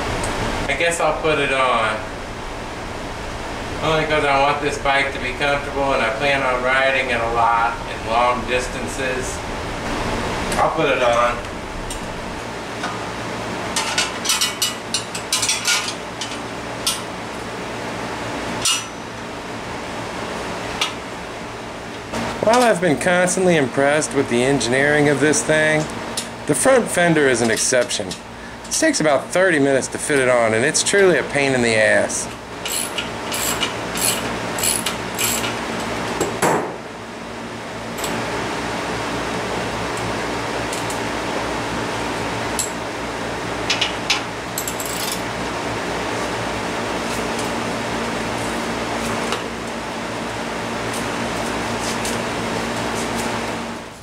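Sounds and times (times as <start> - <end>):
fan hum: 0.0 - 54.0.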